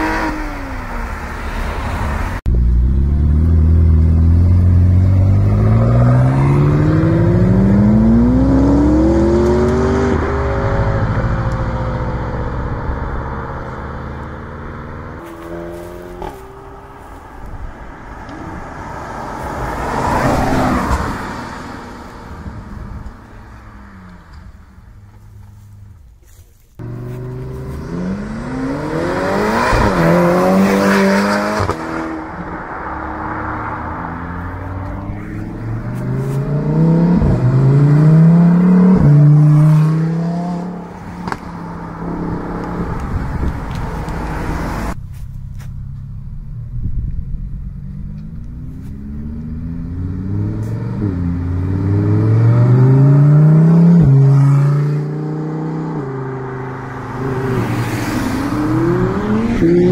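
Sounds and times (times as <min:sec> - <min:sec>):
sports cars accelerating hard: 0:00.0 - 0:24.4, 0:26.8 - 0:45.0, 0:48.2 - 0:59.9.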